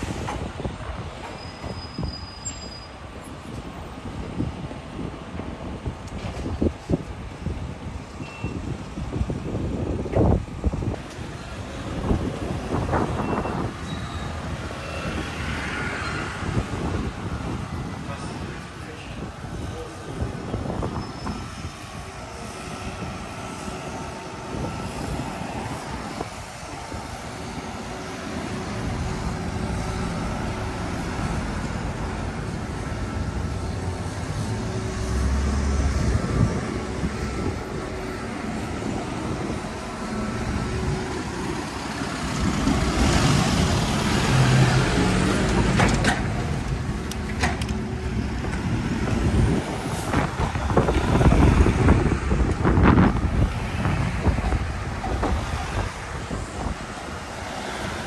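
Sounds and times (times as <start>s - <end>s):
motor vehicles passing: 9.0s - 58.0s.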